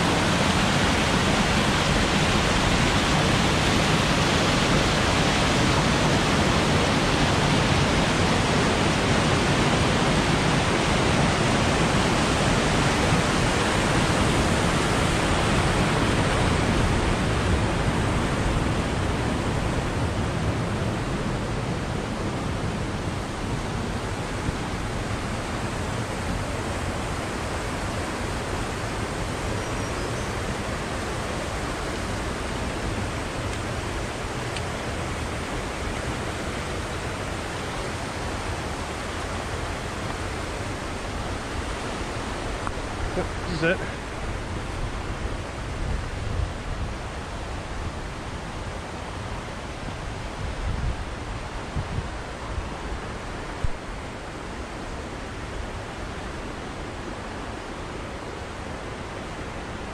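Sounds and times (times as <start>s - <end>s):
creek rushing over boulders: 0.0s - 59.9s.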